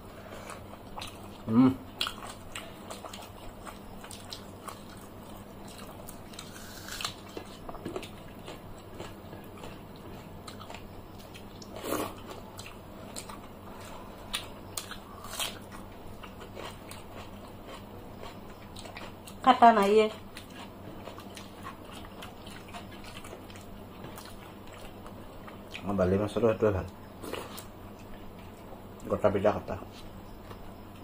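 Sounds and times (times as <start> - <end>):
chewing and crunching food: 0.1 - 29.2.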